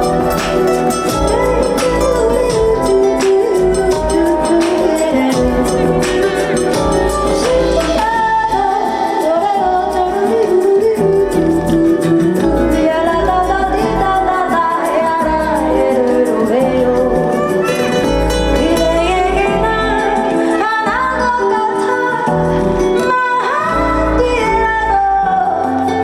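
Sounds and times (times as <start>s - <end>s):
band accompaniment with bass beat: 0.0s - 26.0s
woman singing: 0.0s - 26.0s.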